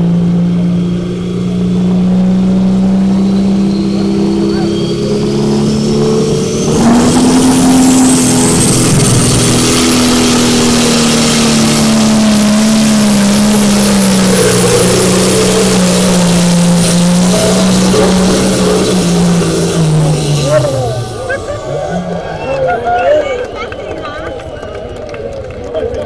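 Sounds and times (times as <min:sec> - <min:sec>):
diesel truck engine at full throttle: 0:00.0 - 0:26.0.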